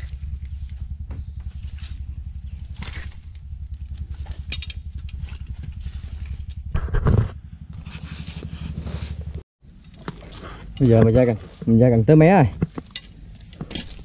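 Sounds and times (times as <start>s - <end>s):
low pulsing throb: 0.0s - 12.2s.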